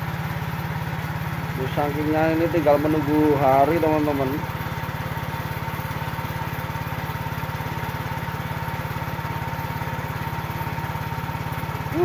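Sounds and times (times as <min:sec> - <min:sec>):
power sprayer engine running: 0:00.0 - 0:12.0.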